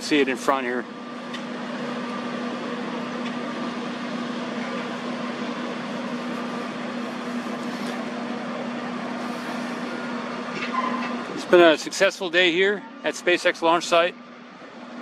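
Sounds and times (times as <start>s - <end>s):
heavy machinery droning: 0.0s - 15.0s.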